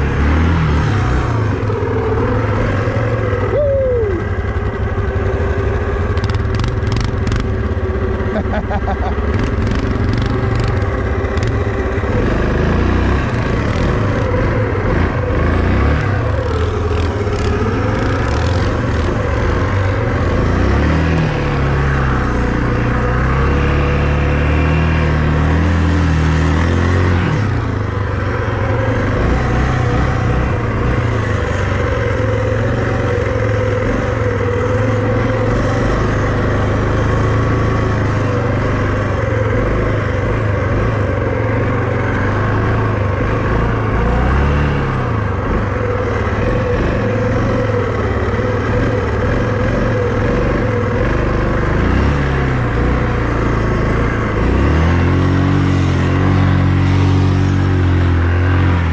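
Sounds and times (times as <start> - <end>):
vehicle engine running under load: 0.0 - 58.9.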